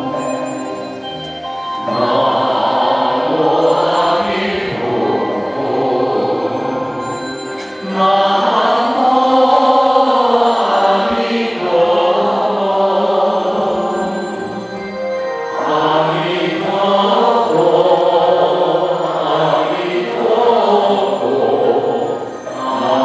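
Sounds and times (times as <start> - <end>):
music: 0.0 - 23.0
slow chanting: 0.0 - 23.0.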